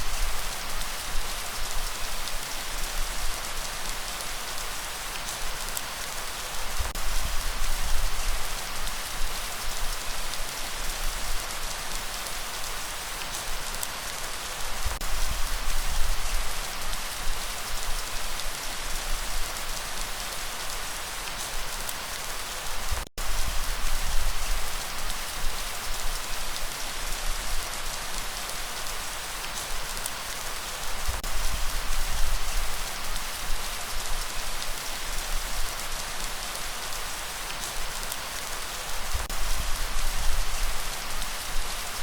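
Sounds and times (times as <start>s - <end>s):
dense rainfall: 0.0s - 42.0s.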